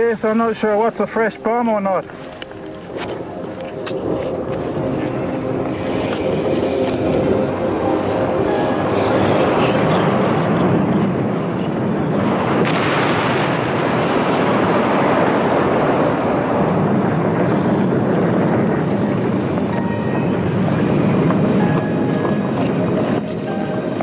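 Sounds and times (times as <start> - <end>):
volcano roaring: 2.1 - 24.0
volcanic blast: 3.8 - 24.0.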